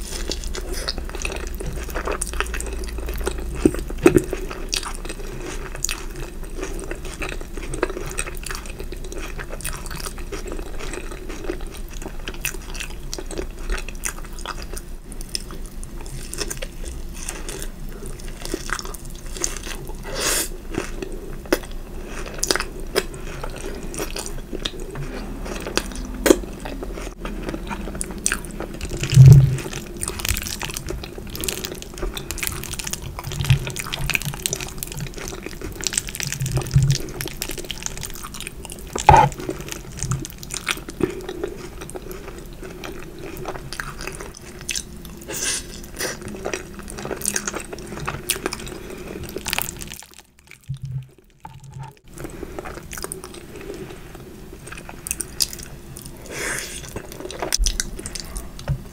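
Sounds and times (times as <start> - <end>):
person chewing and crunching: 0.0 - 58.9.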